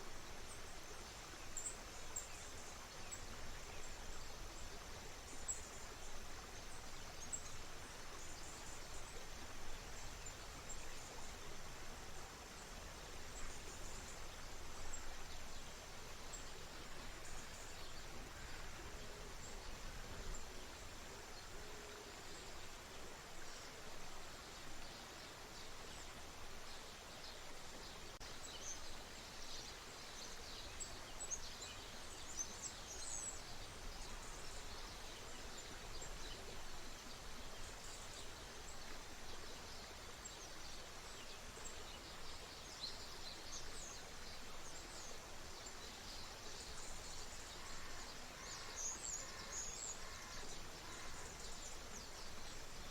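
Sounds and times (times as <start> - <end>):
stream flowing: 0.0 - 52.9.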